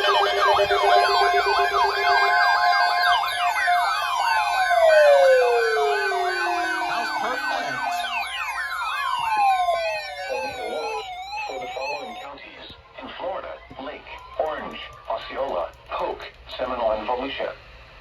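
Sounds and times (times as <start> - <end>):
sirens wailing down in pitch: 0.0 - 16.0
siren steady tones: 0.0 - 16.1
sirens yelping: 0.0 - 16.2.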